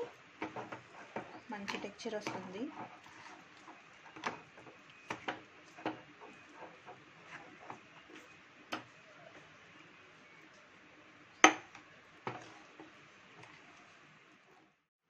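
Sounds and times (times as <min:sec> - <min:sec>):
spoon stirring batter in bowl: 0:00.0 - 0:14.8.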